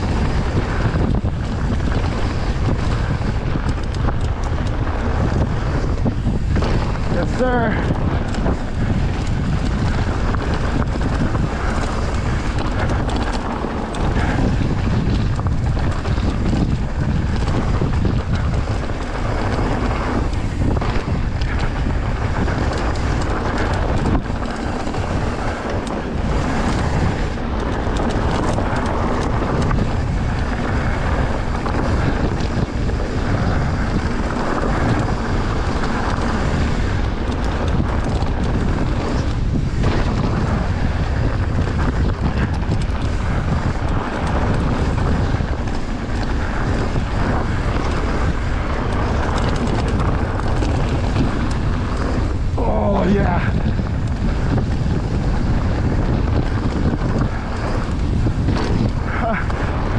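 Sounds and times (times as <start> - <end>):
bike rattling over rocks: 0.0 - 59.9
tyres crunching on gravel: 0.0 - 59.9
wind noise on microphone: 0.0 - 59.9.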